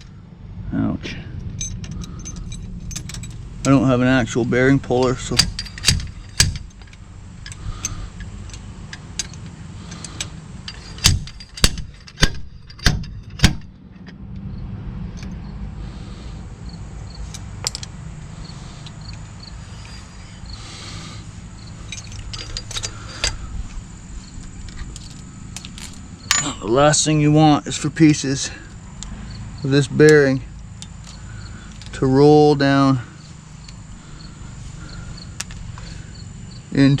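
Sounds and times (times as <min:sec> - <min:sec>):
low hum: 0:00.0 - 0:36.7.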